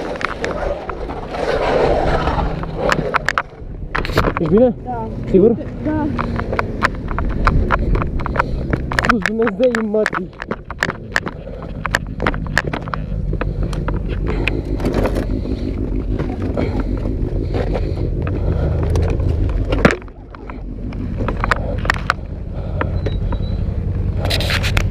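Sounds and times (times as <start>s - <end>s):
motorcycle parts clicking and scraping: 0.0s - 24.9s
steady low rumble: 0.0s - 24.9s.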